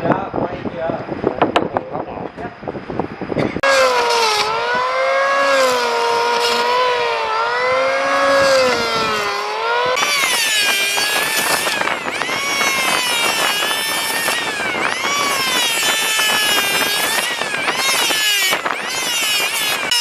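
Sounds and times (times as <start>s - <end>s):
electric planer shaving wood: 3.6s - 20.0s.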